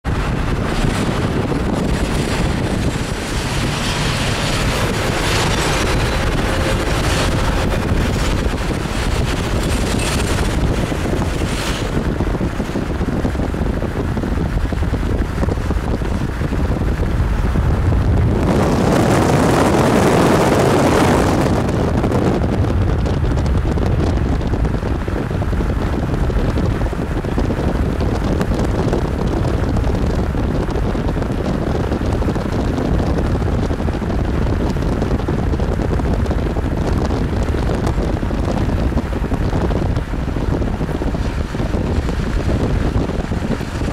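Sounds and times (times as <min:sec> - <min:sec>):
wind buffeting microphone: 0:00.0 - 0:43.9
train wheels rumbling on rails: 0:00.1 - 0:43.9.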